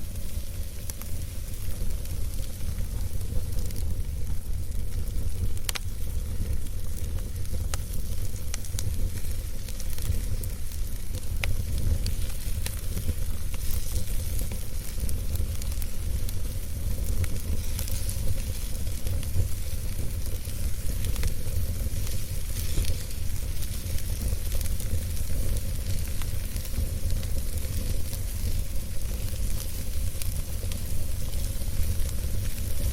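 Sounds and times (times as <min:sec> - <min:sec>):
campfire crackling and popping: 0:00.0 - 0:32.9
fire low rumble and hiss: 0:00.0 - 0:32.9.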